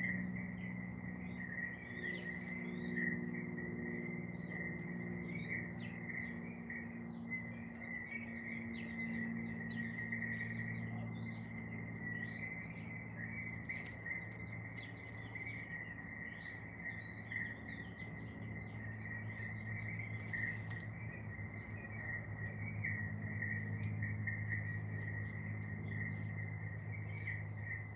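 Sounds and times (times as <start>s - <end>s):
birds chirping and singing: 0.0s - 27.9s
low hum: 0.0s - 27.9s.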